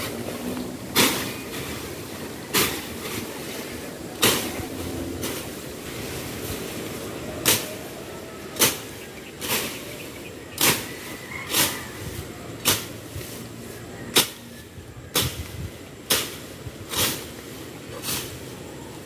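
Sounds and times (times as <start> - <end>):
leaves and dirt rustling: 0.0 - 19.0.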